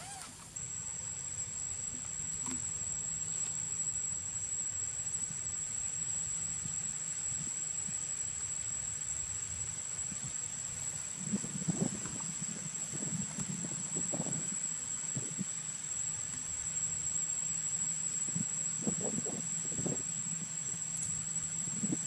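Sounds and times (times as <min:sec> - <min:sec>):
insects whining: 0:00.0 - 0:22.0.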